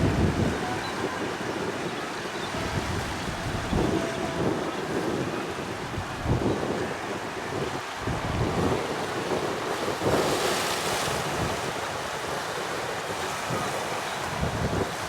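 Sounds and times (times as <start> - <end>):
choppy water waves: 0.0 - 15.0
strong wind buffeting microphone: 0.0 - 15.0.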